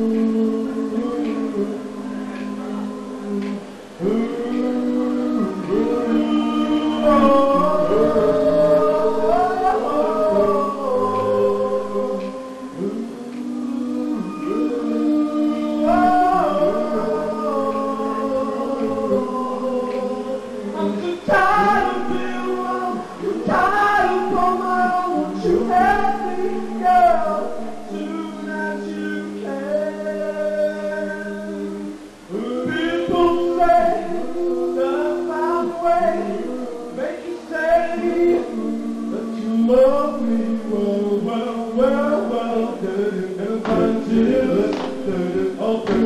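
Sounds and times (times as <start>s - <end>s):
male vocal group singing a cappella: 0.0s - 46.0s.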